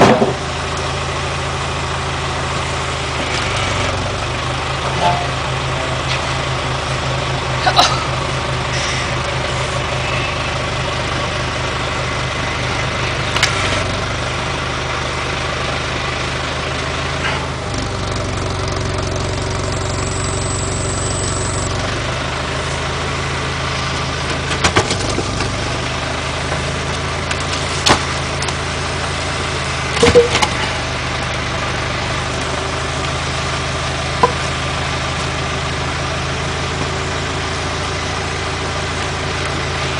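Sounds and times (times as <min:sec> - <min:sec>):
tractor engine idling: 0:00.1 - 0:39.9.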